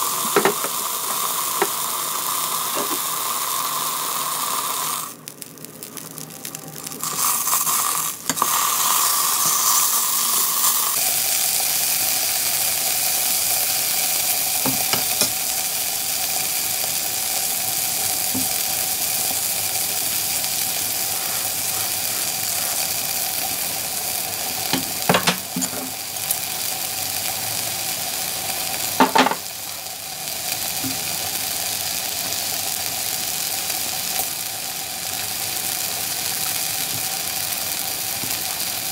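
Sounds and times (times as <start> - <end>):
steak sizzling on a grill pan: 0.0 - 38.9.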